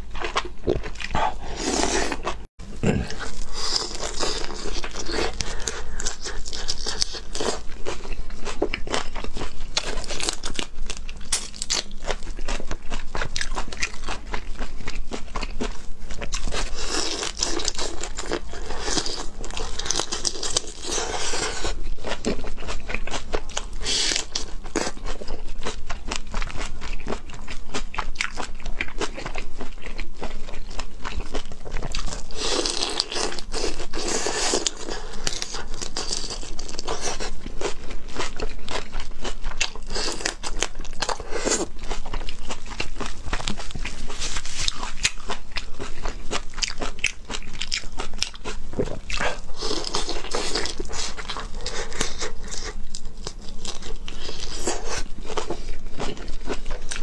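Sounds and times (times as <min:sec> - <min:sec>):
chewing crunchy prawn shells: 0:00.0 - 0:57.0.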